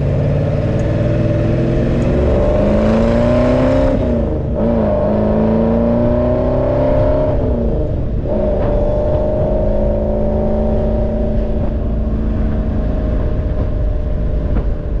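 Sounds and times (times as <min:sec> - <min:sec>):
car engine accelerating hard: 0:00.0 - 0:15.0
wind and road noise: 0:00.0 - 0:15.0.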